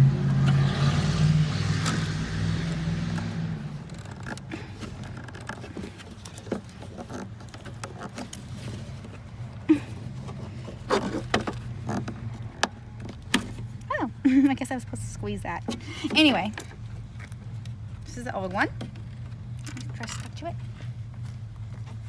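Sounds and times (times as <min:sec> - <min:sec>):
vehicle low hum: 0:00.0 - 0:22.0.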